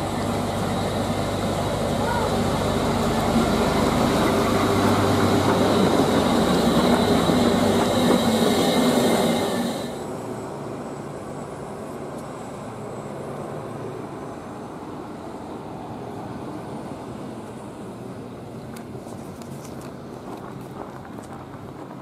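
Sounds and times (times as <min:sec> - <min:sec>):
bus diesel engine humming: 0:00.0 - 0:22.0
outdoor background noise: 0:00.0 - 0:22.0.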